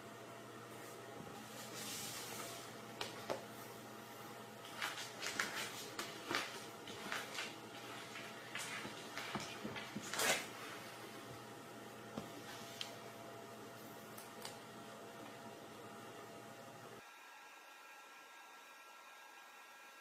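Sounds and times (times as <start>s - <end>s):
faint room hum: 0.0s - 20.0s.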